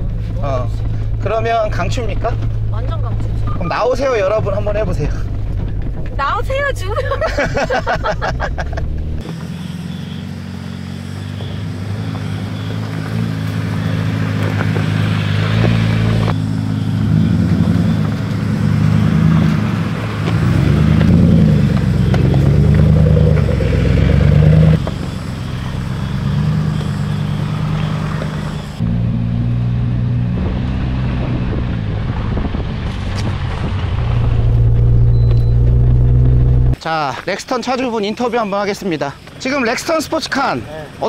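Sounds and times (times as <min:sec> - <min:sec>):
off-road vehicle engines: 0:00.0 - 0:41.0.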